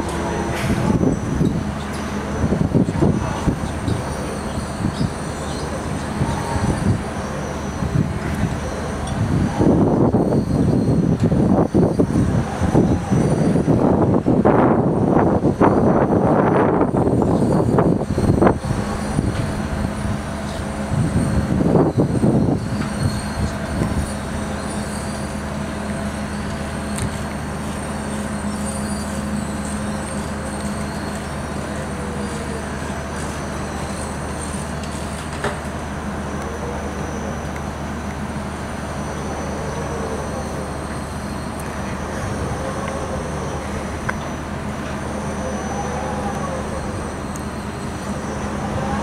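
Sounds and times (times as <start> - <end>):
ride machinery hum and rumble: 0.0 - 49.0.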